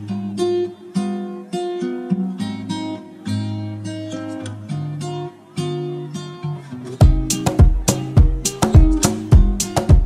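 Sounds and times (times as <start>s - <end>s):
acoustic guitar picking: 0.0s - 10.0s.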